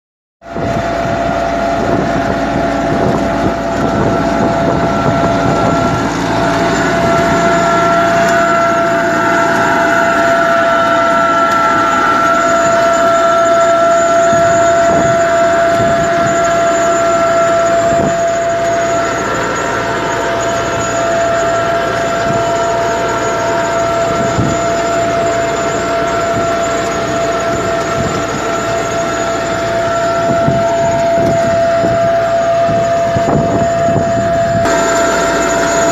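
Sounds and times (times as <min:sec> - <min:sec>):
high-pitched fan whine: 0:00.4 - 0:35.9
tractor engine running: 0:00.4 - 0:35.9.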